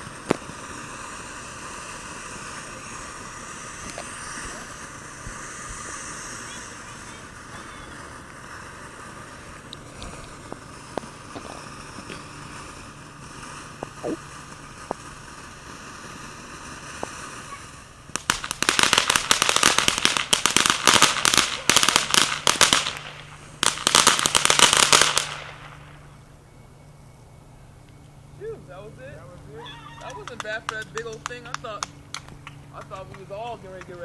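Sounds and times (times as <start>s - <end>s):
scattered pops: 0.0s - 26.0s, 29.9s - 34.0s
firework crackling bursts: 0.0s - 26.4s, 27.7s - 34.0s.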